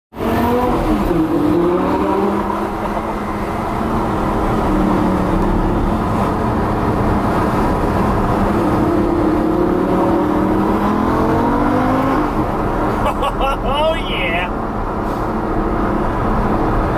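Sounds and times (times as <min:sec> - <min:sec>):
road noise: 0:00.1 - 0:16.9
car engine inside cabin: 0:00.2 - 0:16.9.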